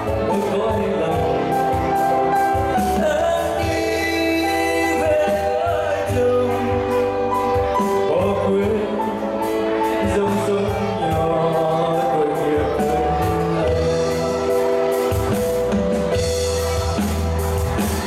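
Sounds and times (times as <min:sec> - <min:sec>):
man singing into a microphone: 0:00.0 - 0:14.8
drum kit with cymbal beat: 0:00.0 - 0:18.0
keyboard: 0:00.0 - 0:18.0.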